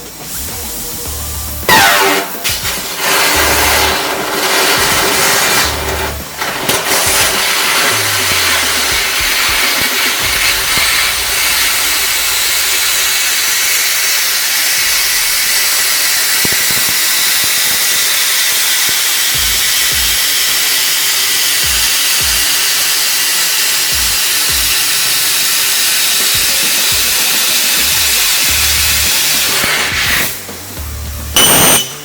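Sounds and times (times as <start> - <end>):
laser cutter hissing: 0.0 - 32.0.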